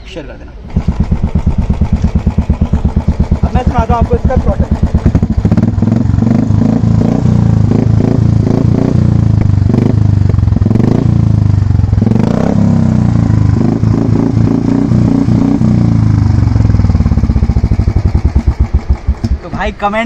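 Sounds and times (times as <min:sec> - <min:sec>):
motorcycle engine revving: 0:00.6 - 0:19.6.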